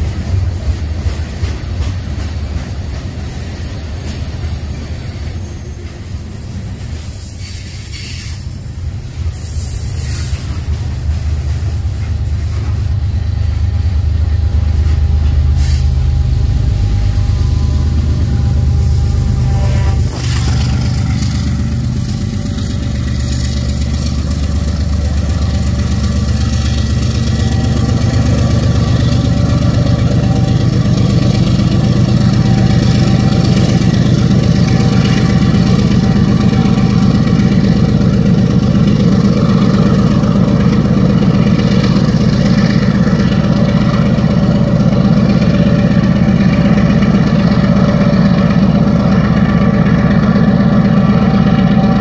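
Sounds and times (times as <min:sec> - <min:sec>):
diesel locomotive engine droning: 0:00.0 - 0:52.0.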